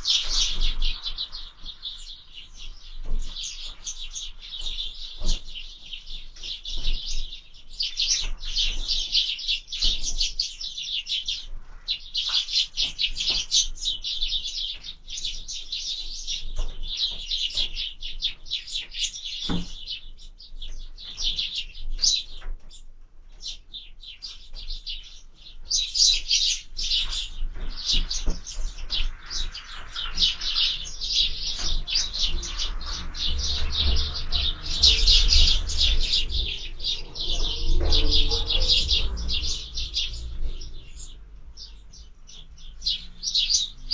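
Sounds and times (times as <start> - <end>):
sparrows chirping rapidly: 0.0 - 43.9.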